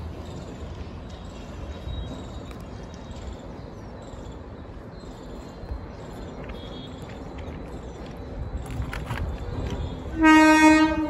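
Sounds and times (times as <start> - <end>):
freight train rumble: 0.0 - 11.0.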